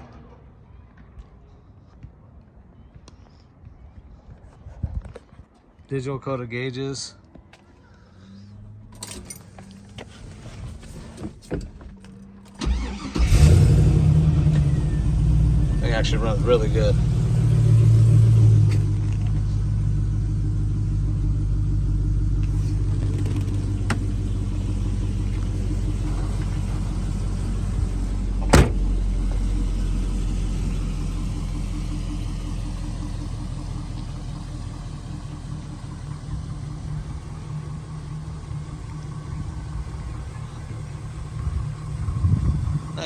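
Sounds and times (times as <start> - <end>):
engine idling rumble: 7.8 - 43.0.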